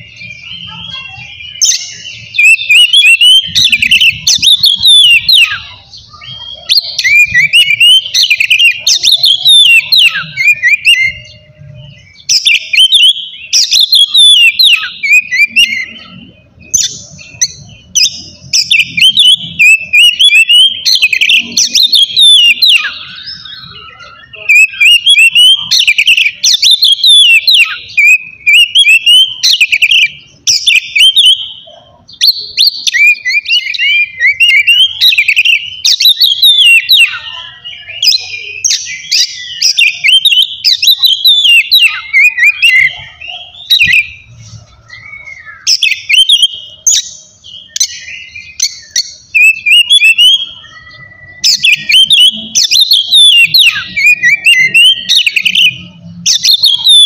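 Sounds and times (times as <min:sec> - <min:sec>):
bird singing whistles and chatter: 0:00.0 - 0:57.0.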